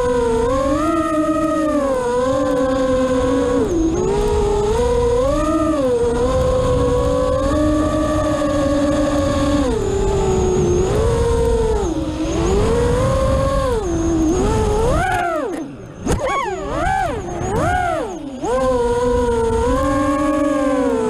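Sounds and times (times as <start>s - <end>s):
drone motors whining: 0.0s - 21.0s
wind rumble on microphone: 0.0s - 21.0s.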